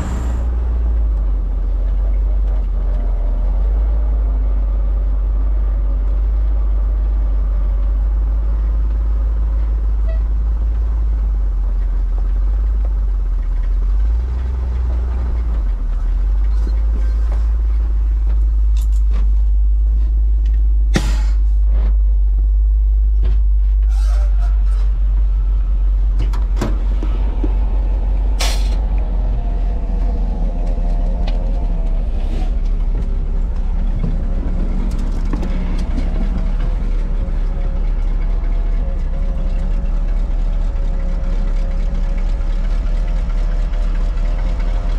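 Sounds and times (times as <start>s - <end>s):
vehicle engine running deep: 0.0s - 44.9s.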